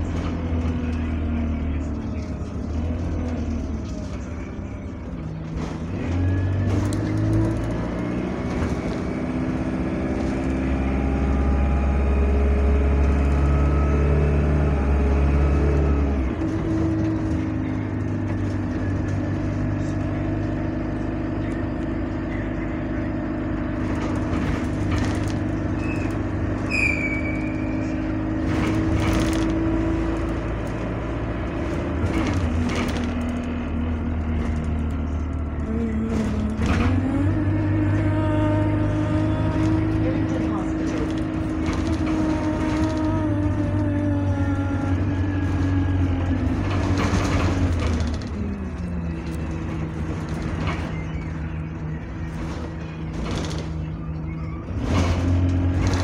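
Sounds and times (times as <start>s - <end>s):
bus engine accelerating: 0.0s - 56.0s.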